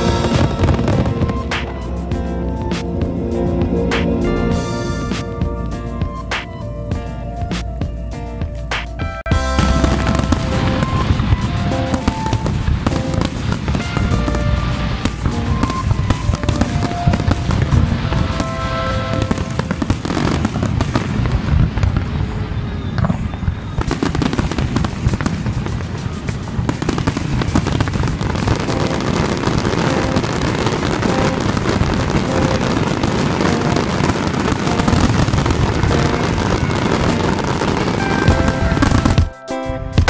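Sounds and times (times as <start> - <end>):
faint music: 0.0 - 40.0
fireworks bangs and crackling: 0.0 - 40.0.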